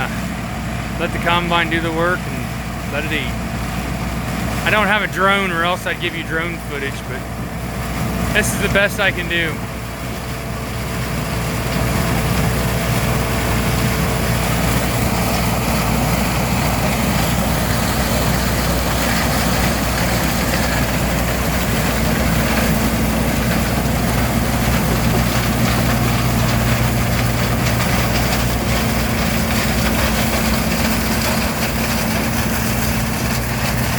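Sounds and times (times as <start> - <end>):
combine harvester running: 0.0 - 33.9.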